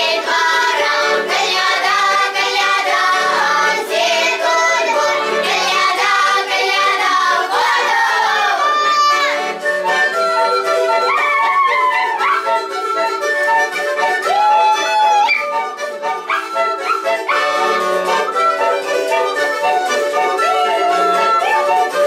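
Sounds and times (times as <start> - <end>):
children's choir singing carol: 0.0 - 13.7, 15.6 - 22.0
instrumental accompaniment: 0.0 - 22.0.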